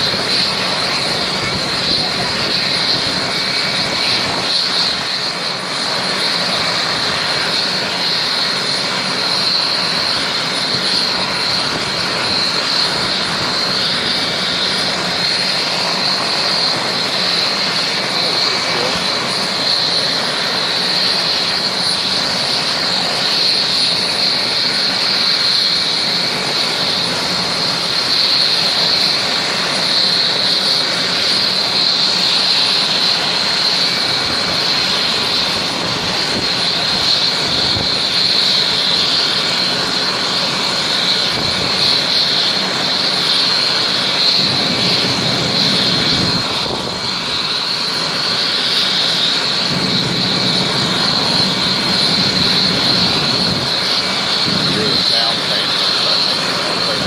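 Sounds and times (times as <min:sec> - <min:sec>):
helicopter turbine whine: 0:00.0 - 0:57.0
rotor and wind rush: 0:00.0 - 0:57.0.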